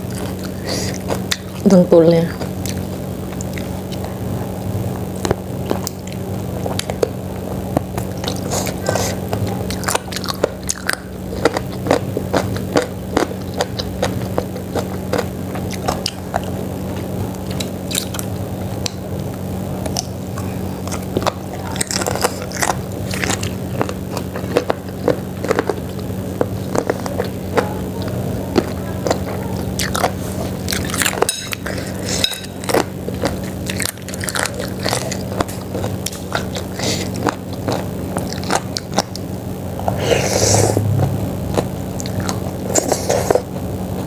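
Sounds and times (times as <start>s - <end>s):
low hum: 0.0s - 44.0s
wet chewing and smacking: 2.3s - 4.2s, 5.2s - 40.0s.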